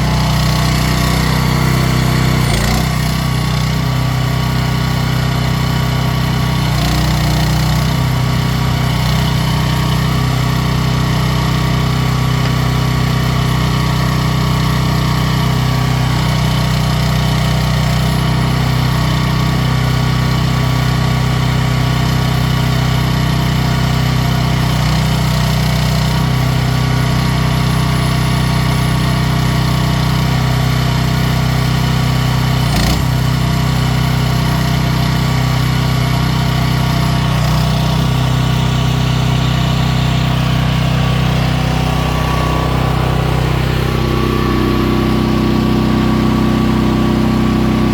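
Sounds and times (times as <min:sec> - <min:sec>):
small excavator engine running: 0:00.0 - 0:47.9.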